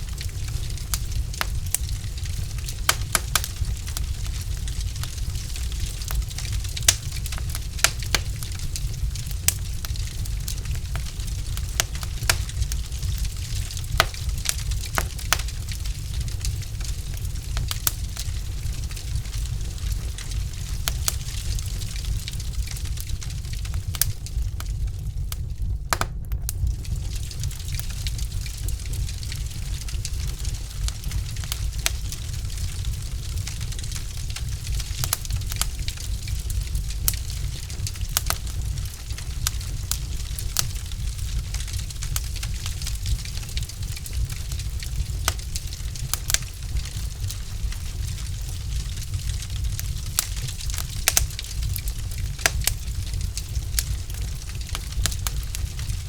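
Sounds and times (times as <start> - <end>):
logs burning crackling: 0.0 - 56.0
low rumble of flames: 0.0 - 56.0.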